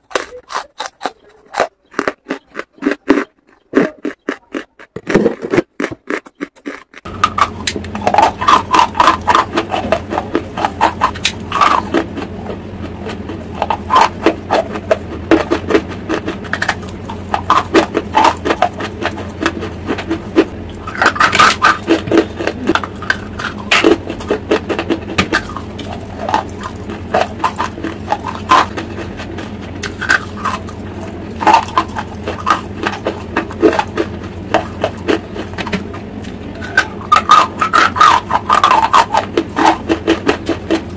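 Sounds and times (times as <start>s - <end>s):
crunching and chewing: 0.0s - 40.9s
steady low hum: 0.0s - 40.9s.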